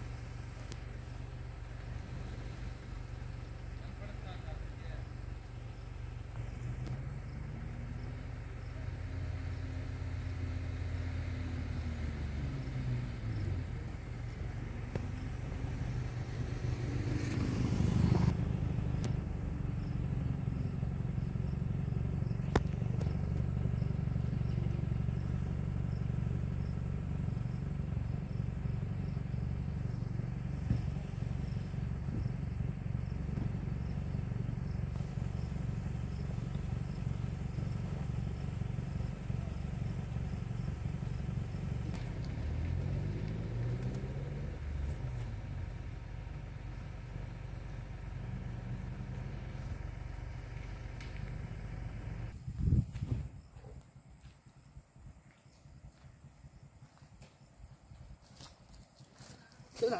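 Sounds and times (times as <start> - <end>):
vehicle engine idling and revving: 0.0 - 59.9.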